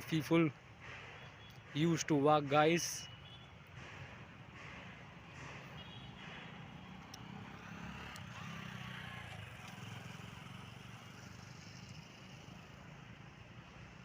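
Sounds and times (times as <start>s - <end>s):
faint road traffic hum: 0.0s - 14.0s.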